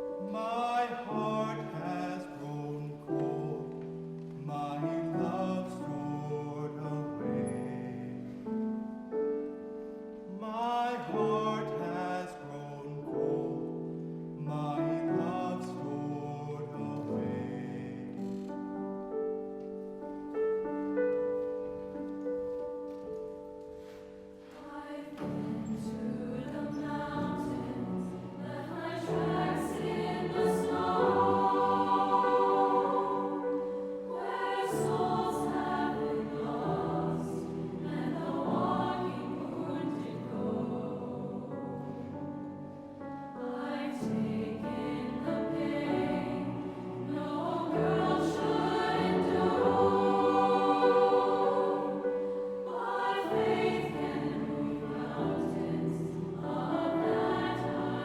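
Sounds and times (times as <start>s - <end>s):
choir singing: 0.0s - 23.0s, 23.7s - 58.0s.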